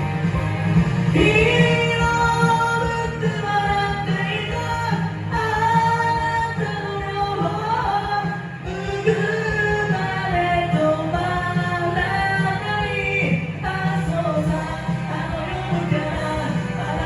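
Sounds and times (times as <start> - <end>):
person singing: 0.0 - 17.0
pop band backing track: 0.0 - 17.0.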